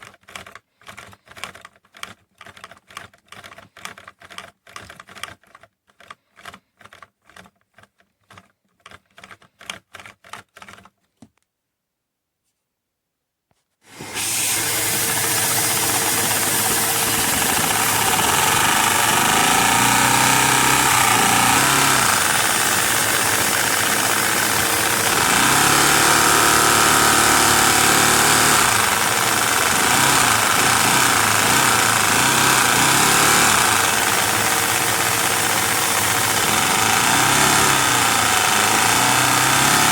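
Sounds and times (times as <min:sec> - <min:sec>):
toy engine mechanical clatter: 0:00.0 - 0:11.1, 0:14.0 - 0:39.9.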